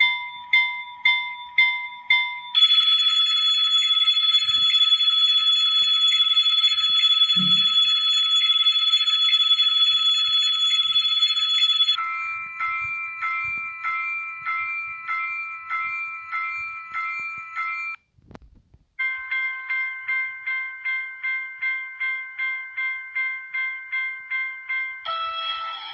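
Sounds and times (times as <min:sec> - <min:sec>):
railroad crossing bells: 0:00.0 - 0:18.0, 0:19.0 - 0:25.9.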